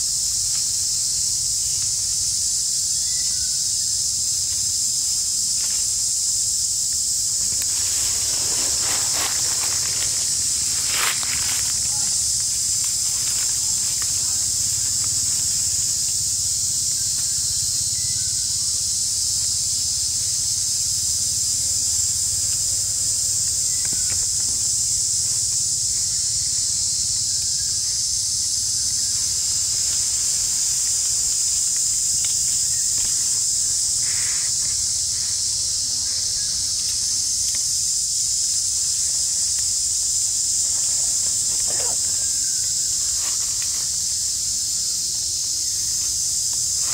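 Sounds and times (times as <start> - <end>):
insects chorus: 0.0 - 46.9.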